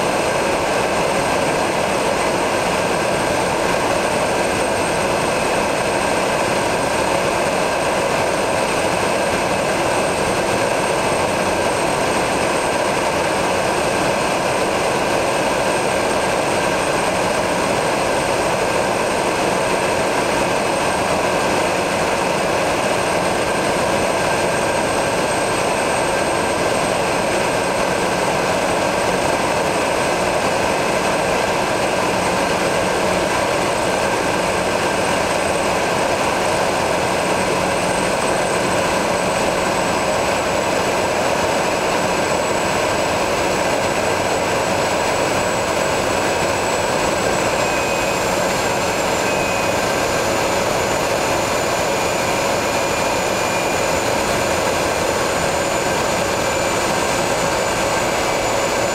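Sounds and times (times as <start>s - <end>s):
high steady whine: 0.0s - 58.9s
turboprop engine drone: 0.0s - 58.9s.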